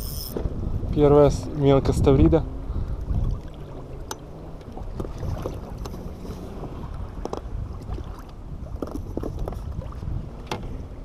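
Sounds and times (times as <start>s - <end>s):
wind rumbling on microphone: 0.0s - 11.0s
water lapping against boat hull: 0.4s - 11.0s.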